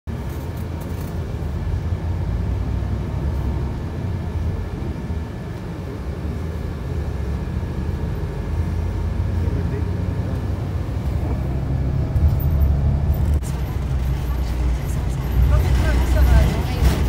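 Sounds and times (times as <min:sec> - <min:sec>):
coach engine rumble: 0:00.1 - 0:17.0.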